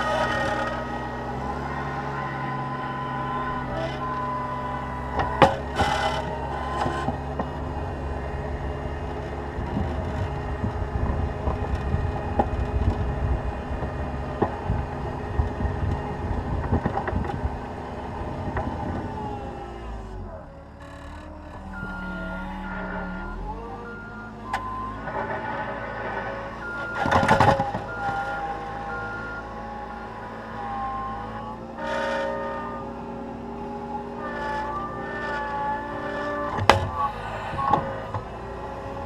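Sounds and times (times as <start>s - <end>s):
diesel engine running: 0.0s - 39.0s
uneven low rumbling with knocks: 0.0s - 39.0s.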